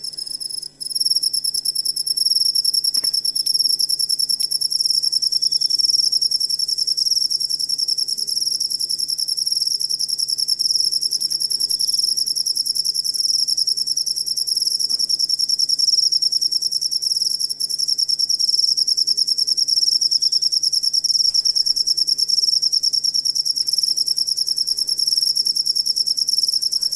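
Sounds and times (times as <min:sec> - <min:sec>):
cricket chirping: 0:00.0 - 0:26.9.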